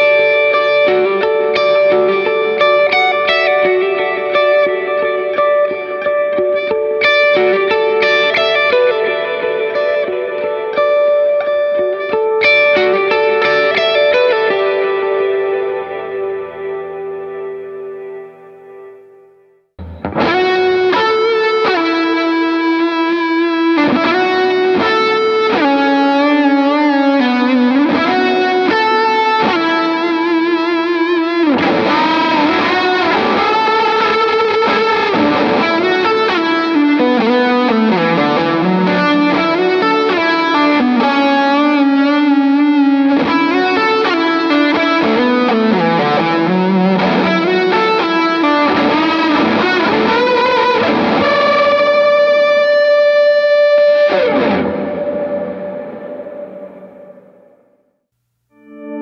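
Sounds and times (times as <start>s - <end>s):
electric guitar with reverb: 0.0s - 59.0s.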